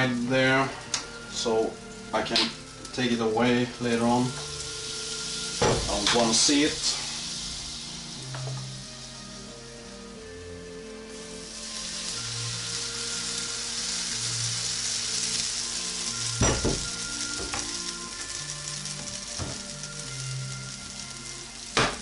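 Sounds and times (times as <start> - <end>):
batter sizzling in a frying pan: 0.0 - 22.0.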